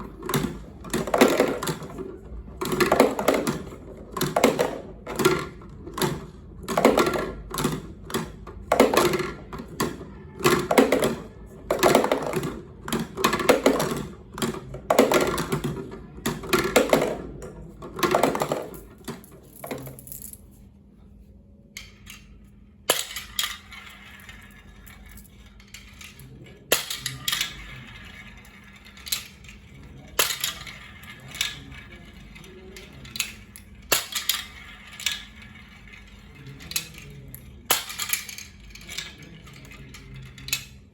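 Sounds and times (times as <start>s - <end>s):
marbles clacking down a marble run: 0.0s - 20.4s, 21.8s - 40.9s.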